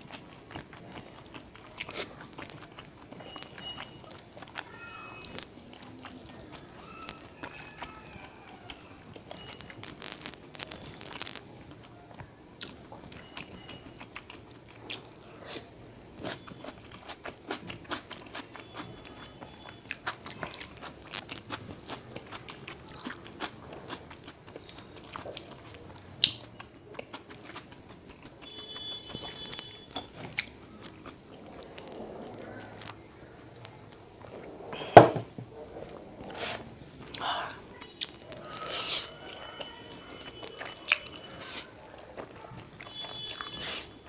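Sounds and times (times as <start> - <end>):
person chewing noodles: 0.0 - 34.6, 35.8 - 44.0.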